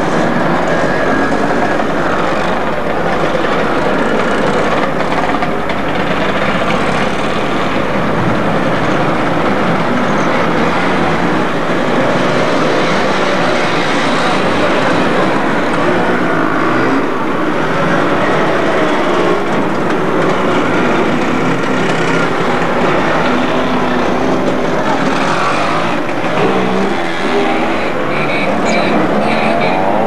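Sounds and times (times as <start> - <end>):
motorcycles riding past: 0.0 - 30.0.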